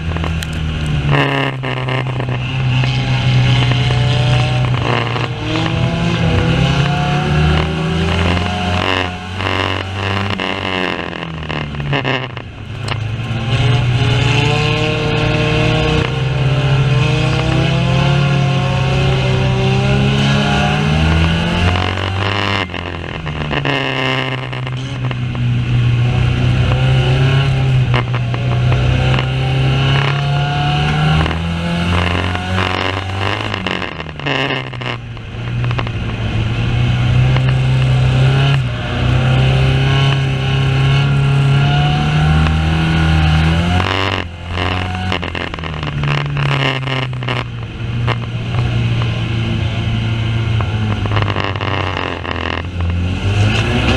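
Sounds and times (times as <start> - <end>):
racing car engines revving: 0.0 - 53.9.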